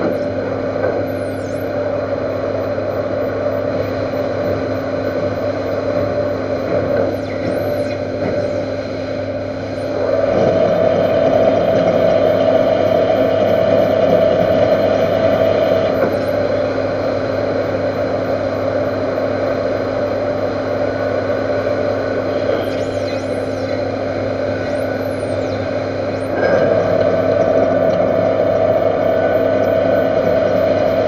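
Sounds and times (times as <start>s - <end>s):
metal lathe humming and whining: 0.0s - 31.0s.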